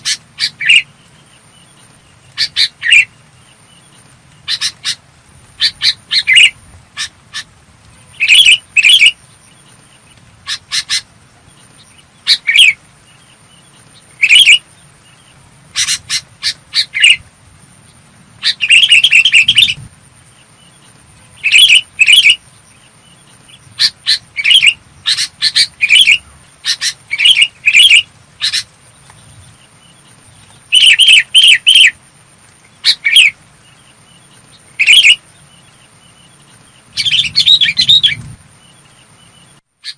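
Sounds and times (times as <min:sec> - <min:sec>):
bulbul calling: 0:00.0 - 0:32.0, 0:32.6 - 0:39.9.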